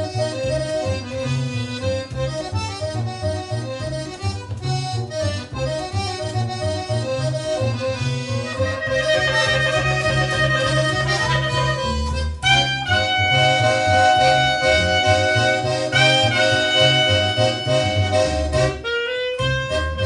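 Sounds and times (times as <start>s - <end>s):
accordion melody: 0.0s - 20.0s
bass line: 0.0s - 20.0s.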